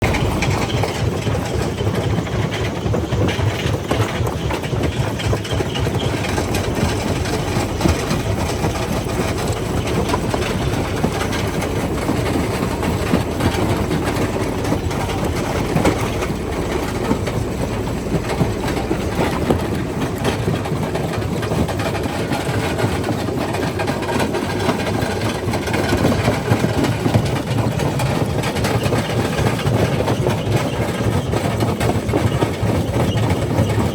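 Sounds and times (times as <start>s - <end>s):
jaw crusher rumbling: 0.0s - 33.9s.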